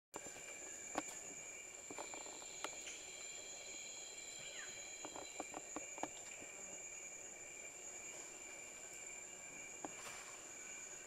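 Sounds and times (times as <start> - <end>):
insects droning: 0.2 - 11.0.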